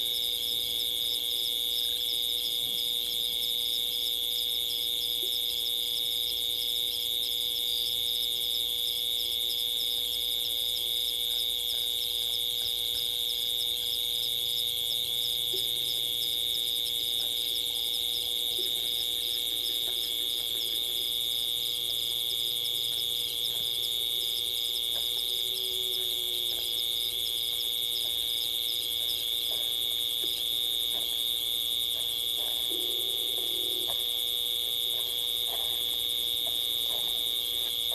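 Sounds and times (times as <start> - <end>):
insect pulsing chirr: 0.0 - 37.9
night insects trilling: 0.0 - 37.9.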